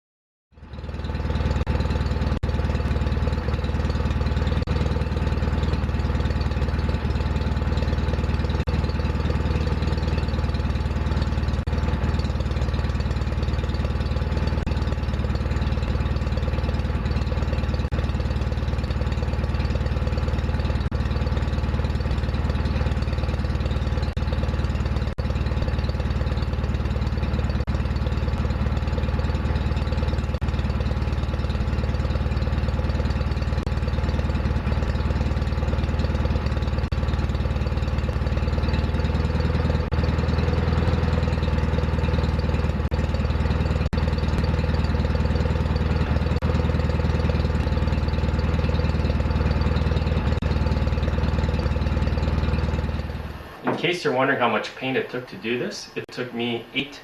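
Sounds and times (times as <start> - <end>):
small tractor engine idling: 0.5 - 57.0.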